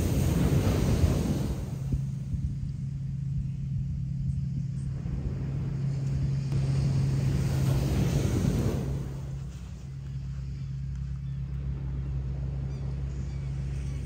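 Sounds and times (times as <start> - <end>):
low engine-like drone: 0.0 - 14.0
low rumble: 0.0 - 14.0.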